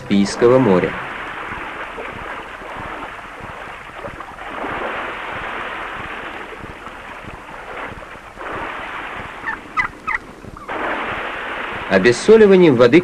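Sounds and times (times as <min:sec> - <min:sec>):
surf breaking on rocks: 0:00.0 - 0:13.0.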